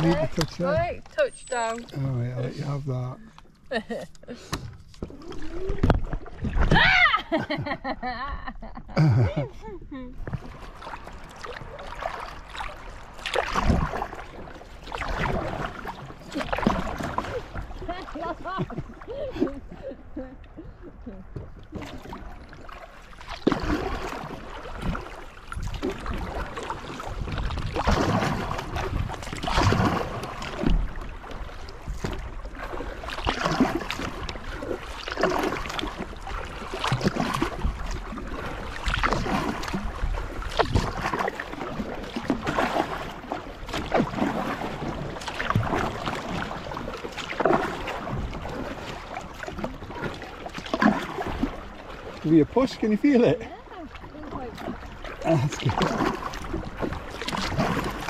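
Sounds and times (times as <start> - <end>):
paddle strokes splashing water: 0.0 - 7.7, 10.1 - 58.0.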